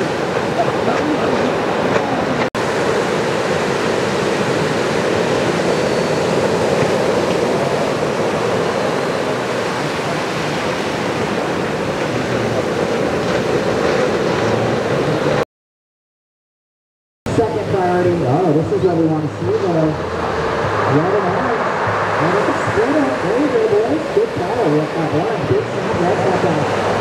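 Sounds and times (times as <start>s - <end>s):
ocean waves breaking: 0.0s - 15.4s, 17.3s - 27.0s.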